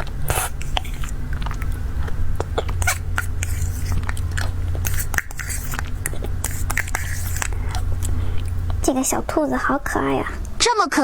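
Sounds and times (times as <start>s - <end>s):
person chewing cake: 0.0s - 10.6s
steady low hum: 0.0s - 11.0s.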